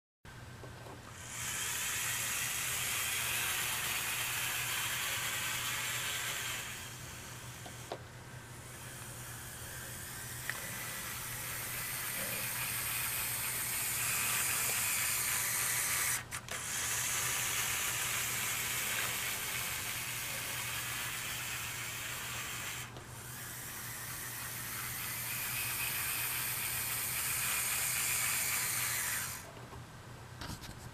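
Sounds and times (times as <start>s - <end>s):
steady low hum: 0.3s - 30.9s
model train motor whirring: 1.1s - 29.6s.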